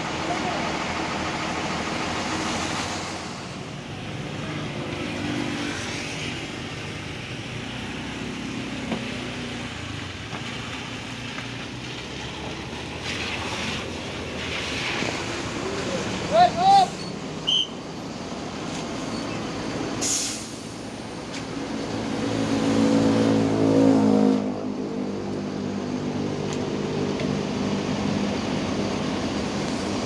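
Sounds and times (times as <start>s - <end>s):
bus diesel engine running: 0.0s - 22.5s, 24.5s - 30.0s.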